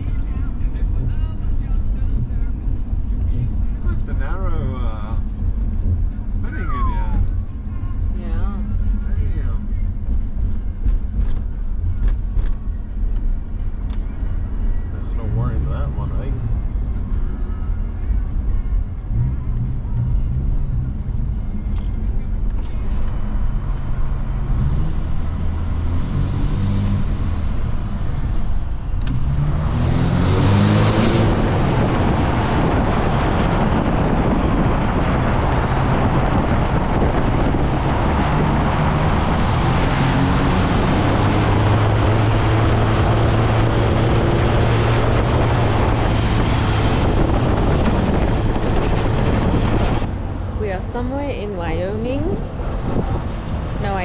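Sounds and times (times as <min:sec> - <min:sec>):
road and tyre noise: 0:00.0 - 0:54.0
vehicle engine accelerating: 0:00.0 - 0:54.0.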